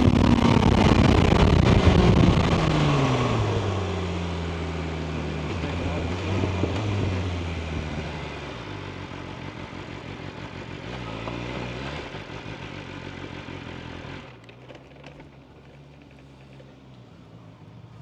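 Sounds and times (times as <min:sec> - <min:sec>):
motorcycle engine slowing to idle: 0:00.0 - 0:18.0.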